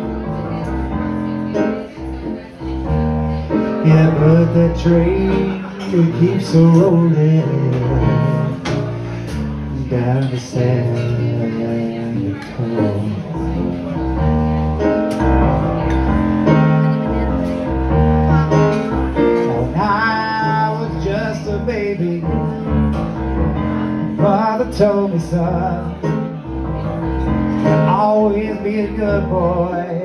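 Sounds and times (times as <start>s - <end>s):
keyboard chords and bass line: 0.0s - 30.0s.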